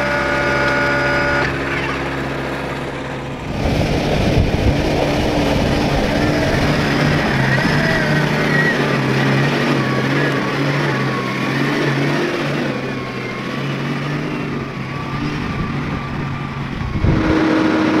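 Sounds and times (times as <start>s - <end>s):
higher steady hum: 0.0s - 18.0s
tractor diesel engine running: 0.0s - 18.0s.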